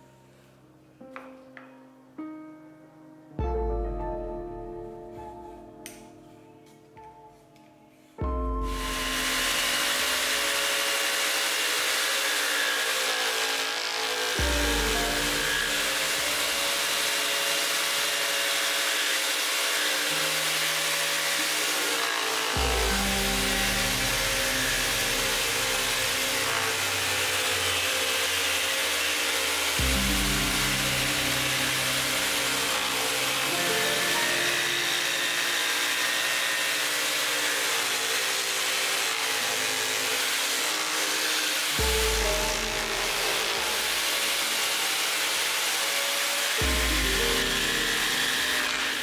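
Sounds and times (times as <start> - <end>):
scroll saw cutting plywood: 8.6 - 49.0.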